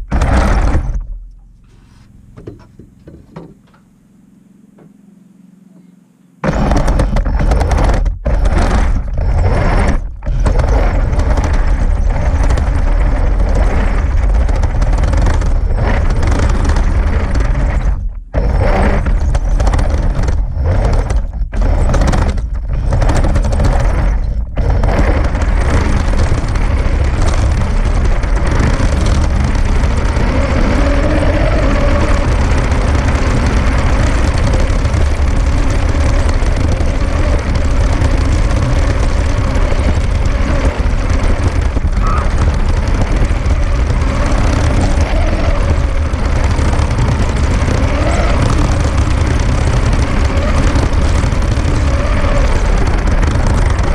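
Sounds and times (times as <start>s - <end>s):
toy tank motors and tracks rumbling: 0.0s - 3.9s, 6.4s - 53.9s.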